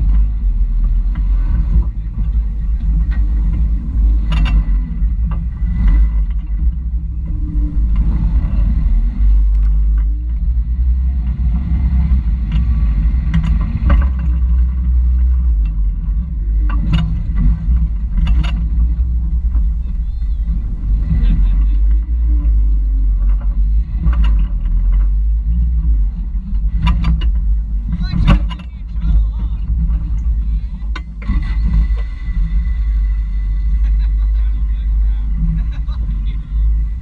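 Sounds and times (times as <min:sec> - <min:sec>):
engine running at low revs: 0:00.0 - 0:37.0.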